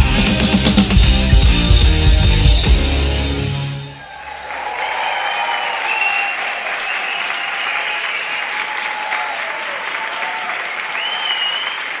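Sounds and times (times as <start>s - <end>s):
audience applauding: 0.0s - 12.0s
audience cheering: 0.0s - 12.0s.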